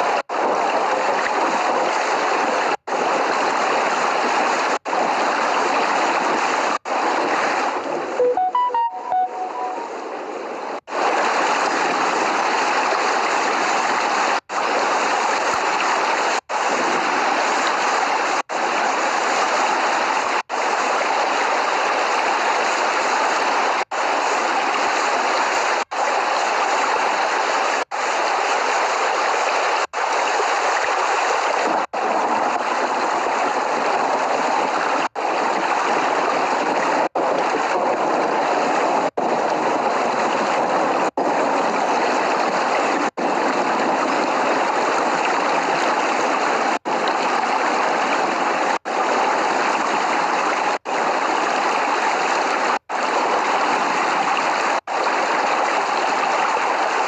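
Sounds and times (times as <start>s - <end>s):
heavy rain: 10.9s - 57.0s.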